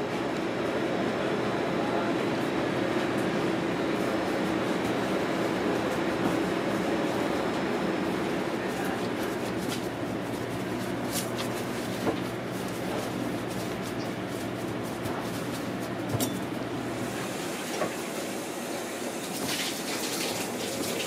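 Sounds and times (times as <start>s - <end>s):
kitchen machinery humming: 0.0s - 21.0s.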